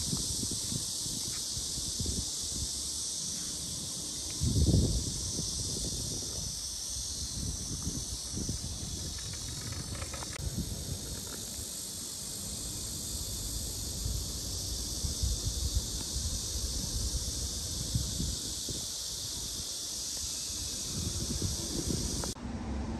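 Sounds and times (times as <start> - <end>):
wind buffeting microphone: 0.0 - 2.8, 4.3 - 11.9, 13.4 - 22.9
high-pitched insect chorus: 0.0 - 22.4.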